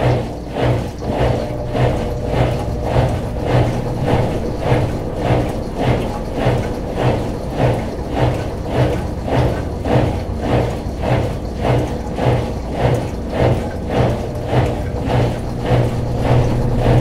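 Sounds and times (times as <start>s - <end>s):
washing machine agitator swishing: 0.0s - 17.0s
washing machine motor hum: 0.0s - 17.0s.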